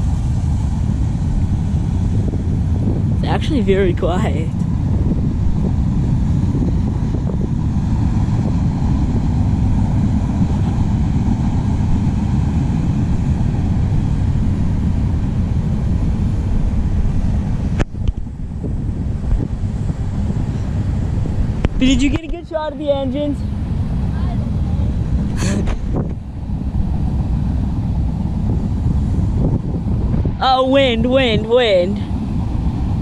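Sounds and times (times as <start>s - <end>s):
freight train rumbling on rails: 0.0s - 33.0s
wind buffeting microphone: 0.0s - 33.0s.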